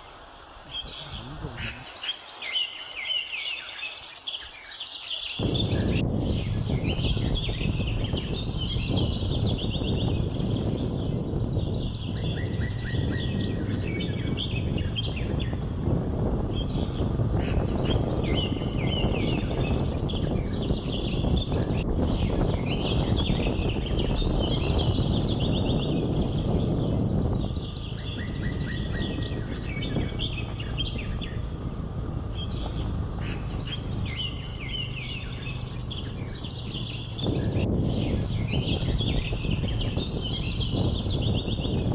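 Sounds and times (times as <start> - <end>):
birds chirping: 0.0 - 15.7, 16.3 - 41.9.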